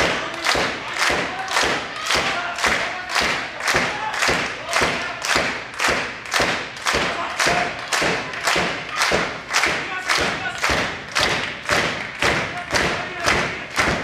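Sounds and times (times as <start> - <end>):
audience clapping in unison: 0.0 - 14.0.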